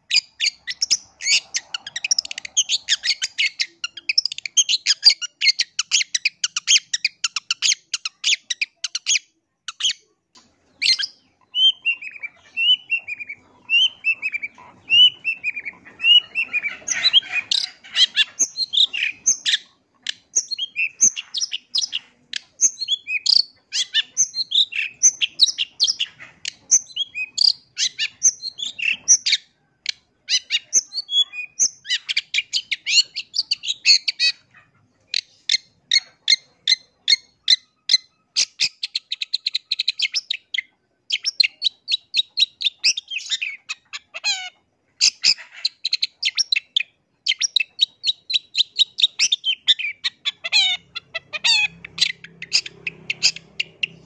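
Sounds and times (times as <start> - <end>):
bird song with chattering and whistles: 0.0 - 54.0.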